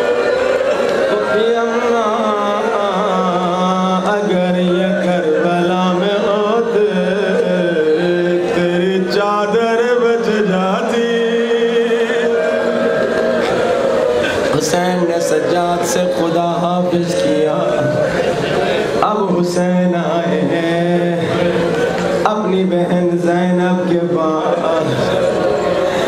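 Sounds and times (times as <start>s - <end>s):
man chanting mournful lament: 1.0s - 13.3s, 14.2s - 26.0s.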